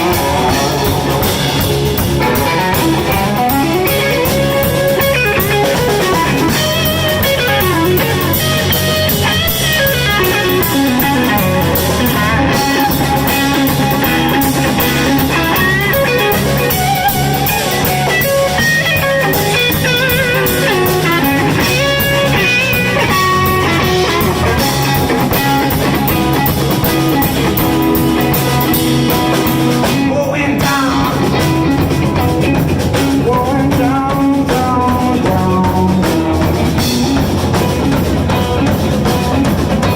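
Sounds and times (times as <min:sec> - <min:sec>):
blues band playing: 0:00.0 - 0:39.9
electric guitar bending notes: 0:00.0 - 0:39.9.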